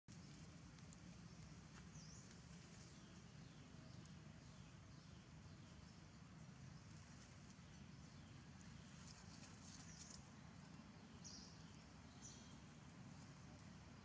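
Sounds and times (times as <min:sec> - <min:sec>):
low steady rumble: 0:00.1 - 0:14.0.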